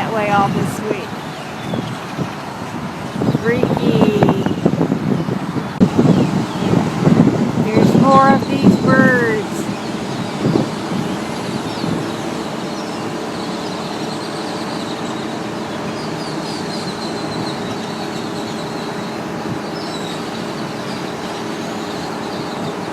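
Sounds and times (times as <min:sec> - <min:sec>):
blackbirds calling faintly: 0:00.0 - 0:22.9
steady traffic noise: 0:00.0 - 0:22.9.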